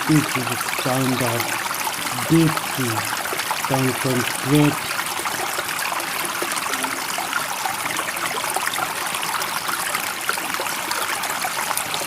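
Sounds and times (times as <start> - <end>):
running water rushing and trickling: 0.0 - 12.0.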